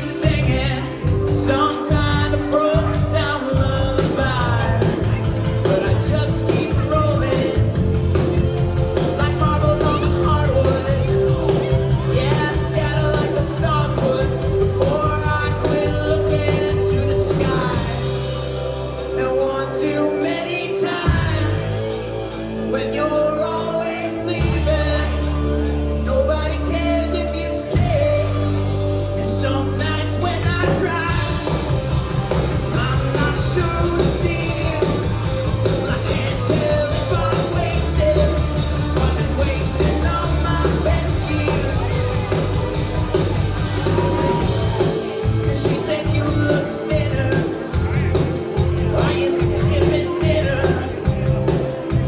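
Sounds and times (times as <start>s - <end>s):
lead singer: 0.0s - 52.0s
live rock band: 0.0s - 52.0s.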